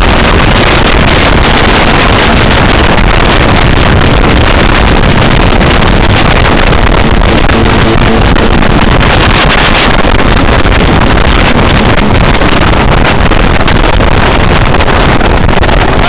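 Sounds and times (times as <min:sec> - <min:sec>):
boat engine and water jet: 0:00.0 - 0:16.0
wind buffeting microphone: 0:00.0 - 0:16.0.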